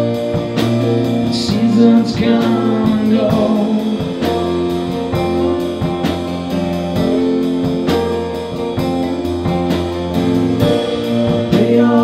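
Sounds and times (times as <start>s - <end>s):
acoustic country-blues band: 0.0s - 12.0s
strummed guitar chords: 0.0s - 12.0s.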